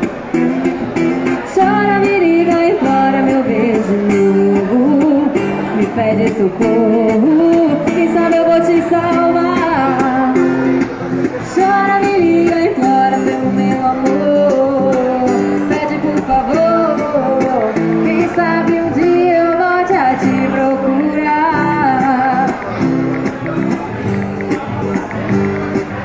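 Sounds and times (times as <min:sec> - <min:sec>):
acoustic guitar strumming: 0:00.0 - 0:26.0
woman singing into microphone: 0:01.3 - 0:22.7.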